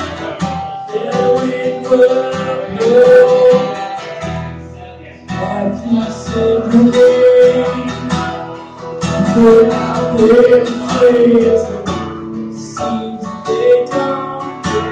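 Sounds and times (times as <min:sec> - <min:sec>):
acoustic guitar strummed: 0:00.0 - 0:14.9
man singing: 0:00.0 - 0:14.9.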